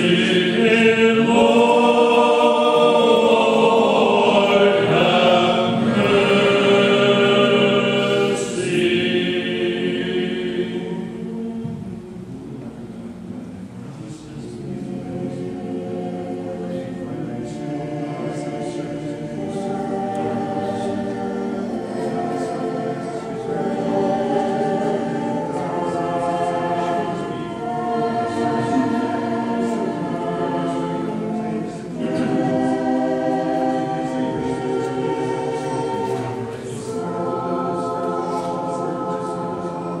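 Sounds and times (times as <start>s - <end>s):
choir singing a cappella: 0.0s - 12.5s, 14.0s - 40.0s.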